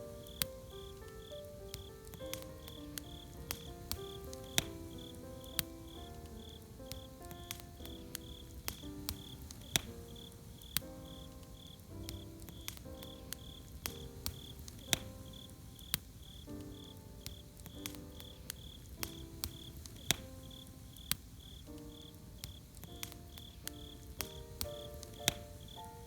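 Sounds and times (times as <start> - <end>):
soft melodic notes: 0.0 - 21.0, 21.6 - 26.0
campfire crackling and popping: 0.0 - 26.0
crickets chirping: 0.0 - 26.0.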